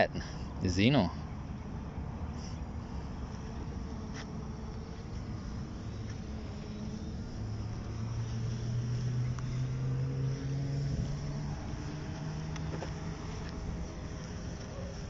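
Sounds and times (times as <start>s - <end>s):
motor humming: 1.4s - 15.0s.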